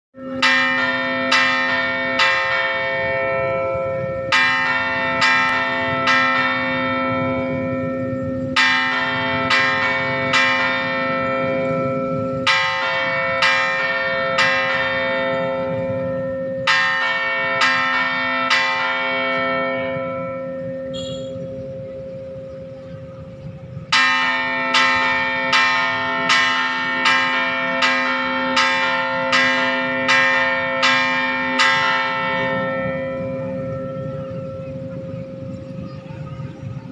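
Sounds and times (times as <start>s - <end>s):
church bells ringing: 0.2s - 36.9s.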